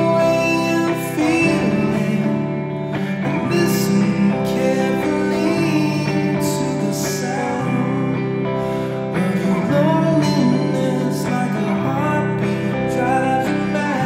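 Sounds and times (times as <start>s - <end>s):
electric guitar chords: 0.0s - 14.0s
man singing: 0.0s - 14.0s.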